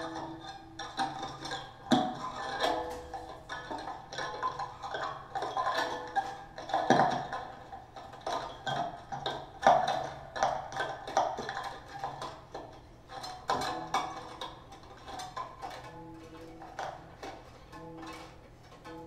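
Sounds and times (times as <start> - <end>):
violin strings tapped and plucked: 0.0 - 19.0.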